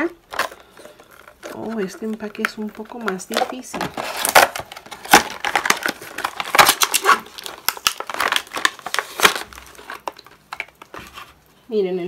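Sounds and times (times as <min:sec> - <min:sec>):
plastic blister pack crinkling: 0:00.0 - 0:11.6.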